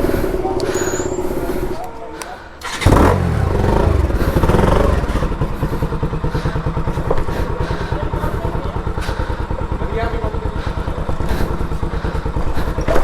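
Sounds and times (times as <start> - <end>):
motorcycle engine idling: 2.4 - 13.0.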